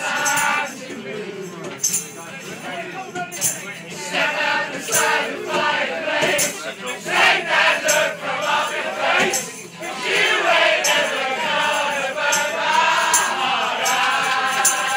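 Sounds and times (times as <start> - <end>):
group of people singing: 0.0 - 2.7, 3.4 - 14.9.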